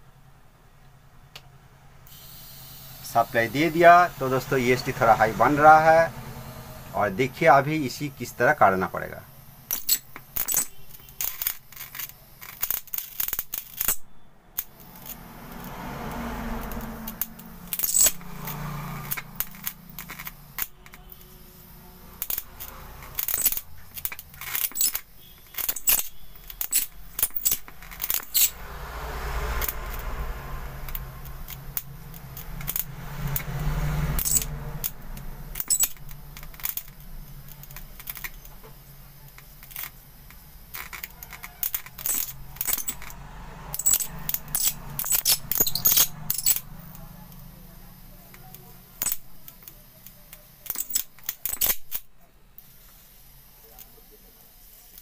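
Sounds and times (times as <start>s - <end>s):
electric sparks snapping: 6.9s - 55.0s.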